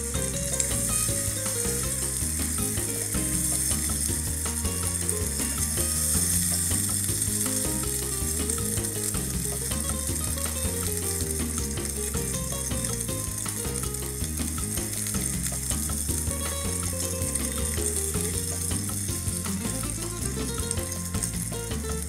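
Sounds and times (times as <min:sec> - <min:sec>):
background music with bass line: 0:00.0 - 0:22.0
food sizzling in oil: 0:00.0 - 0:22.0.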